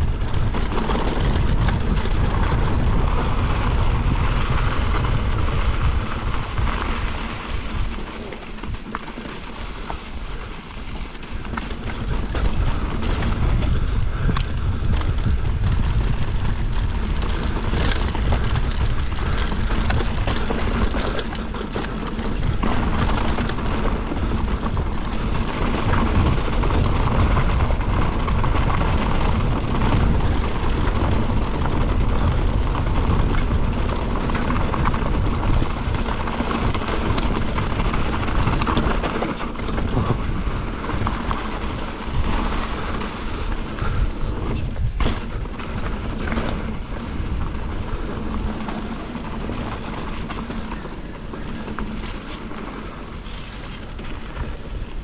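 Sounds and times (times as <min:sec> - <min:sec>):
bike rattling over bumps: 0:00.0 - 0:55.0
tyres rumbling over dirt: 0:00.0 - 0:55.0
wind rushing over microphone: 0:00.0 - 0:55.0.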